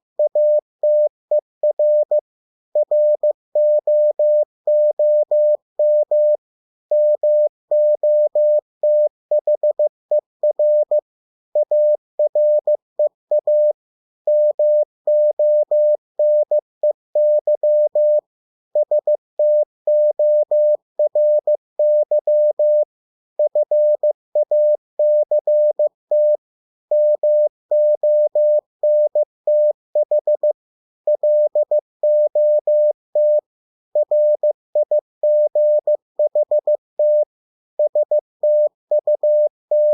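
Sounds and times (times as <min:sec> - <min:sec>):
morse code beeps: 0:00.2 - 0:02.2, 0:02.8 - 0:11.0, 0:11.6 - 0:16.6, 0:17.2 - 0:18.2, 0:18.8 - 0:22.8, 0:23.4 - 0:33.4, 0:34.0 - 0:39.9.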